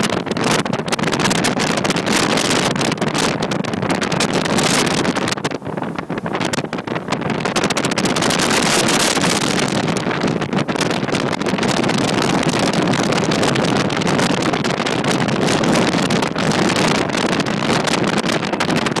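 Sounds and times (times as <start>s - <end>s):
motorboat running at speed: 0.0s - 19.0s
wind buffeting microphone: 0.0s - 19.0s.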